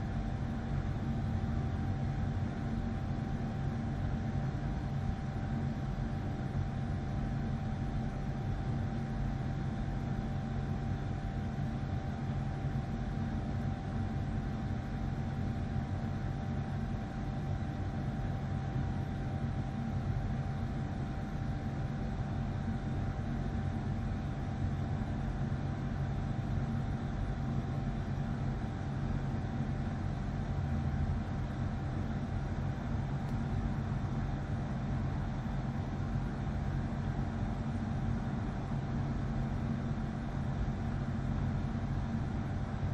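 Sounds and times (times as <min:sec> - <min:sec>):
steady mechanical hum: 0:00.0 - 0:42.9.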